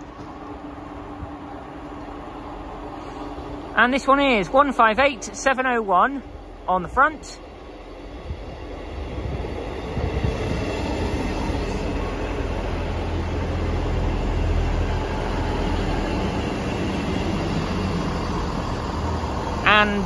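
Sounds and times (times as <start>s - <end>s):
diesel train rumbling: 0.0s - 20.0s
train wheels on rails: 0.0s - 20.0s.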